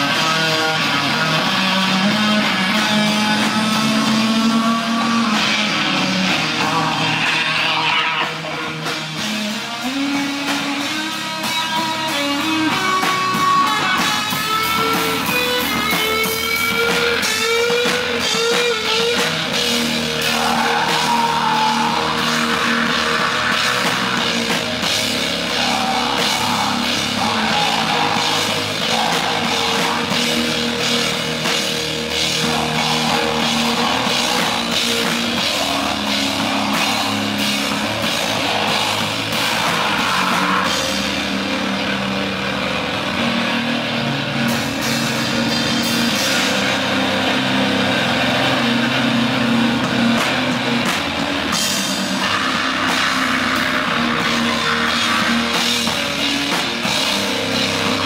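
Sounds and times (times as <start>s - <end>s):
live rock band playing: 0.0s - 58.0s
steady drumming: 0.0s - 58.0s.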